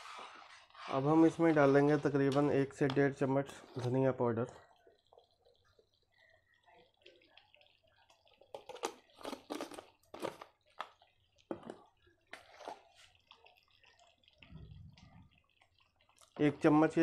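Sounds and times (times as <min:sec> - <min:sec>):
tomato gravy bubbling: 0:00.0 - 0:17.0
soft wet pops and crackles: 0:00.5 - 0:17.0.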